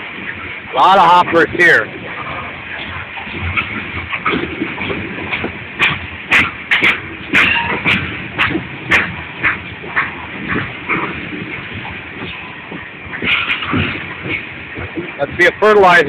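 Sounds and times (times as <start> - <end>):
train wheels rumbling on rail: 0.0 - 16.0
sharp wheel clacks: 2.7 - 16.0.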